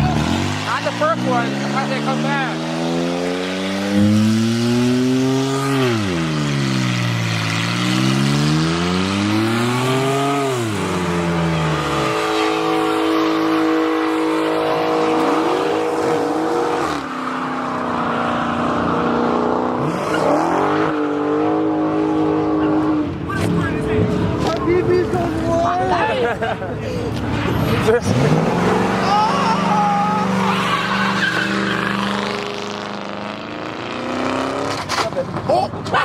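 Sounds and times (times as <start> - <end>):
car engine revving: 0.0 - 26.4, 27.0 - 36.0.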